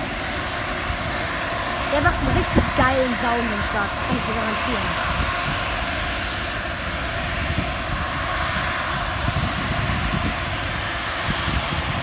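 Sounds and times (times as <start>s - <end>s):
jet engines at high power: 0.0s - 12.0s.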